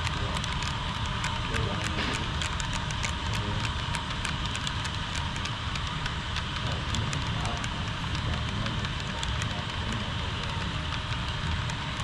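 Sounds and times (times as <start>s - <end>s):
model train rumbling: 0.0s - 12.0s
wheels clicking on rails: 0.0s - 12.0s.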